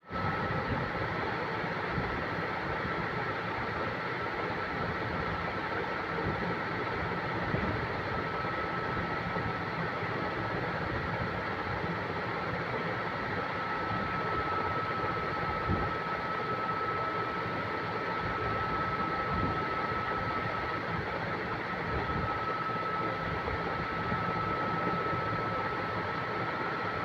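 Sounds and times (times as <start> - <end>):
machine running with high whine: 0.1 - 27.0.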